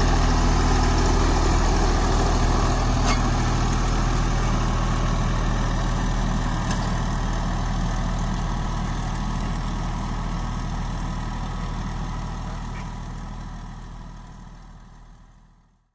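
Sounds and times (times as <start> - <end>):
tractor diesel engine under load: 0.0 - 15.8.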